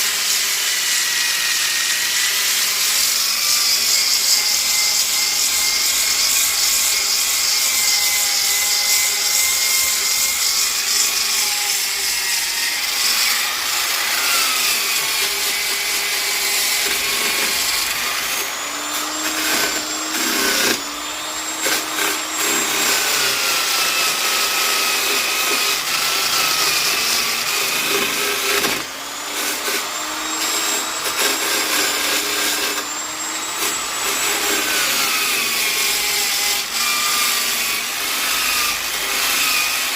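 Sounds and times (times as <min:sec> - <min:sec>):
sander grinding wood: 0:00.0 - 0:39.9.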